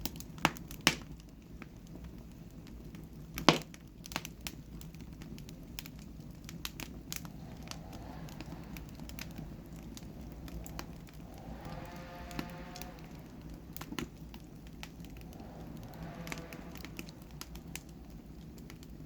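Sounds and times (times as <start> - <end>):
low rush of burning: 0.0 - 19.0
wood fire snapping and popping: 0.0 - 19.0.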